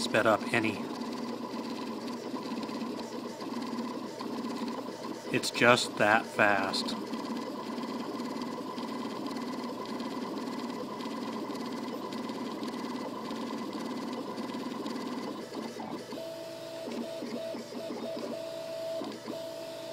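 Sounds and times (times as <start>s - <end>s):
printer stepper motors whirring: 0.0s - 19.9s.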